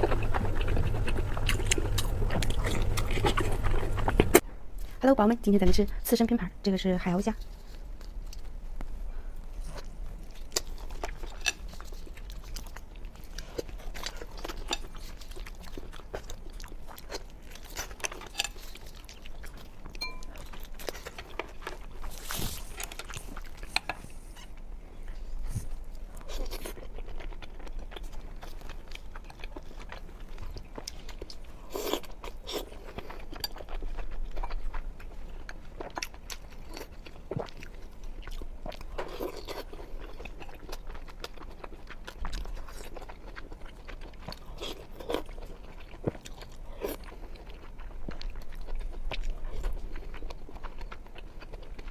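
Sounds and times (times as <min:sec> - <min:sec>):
person chewing food: 0:00.0 - 0:04.4, 0:07.5 - 0:51.9.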